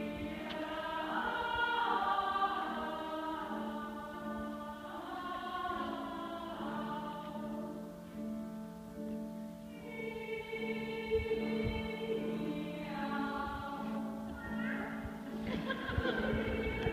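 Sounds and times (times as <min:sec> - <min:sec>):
women's choir singing: 0:00.0 - 0:08.2, 0:09.7 - 0:16.9.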